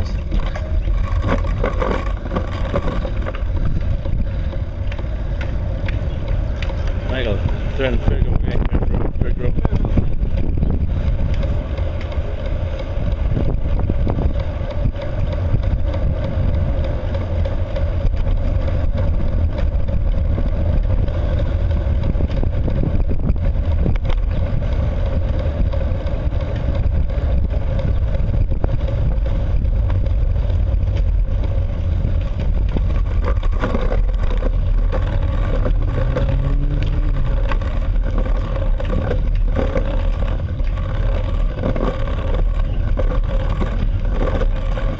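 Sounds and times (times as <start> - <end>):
motor droning with low rumble: 0.0 - 44.9
rising whine: 0.0 - 44.9.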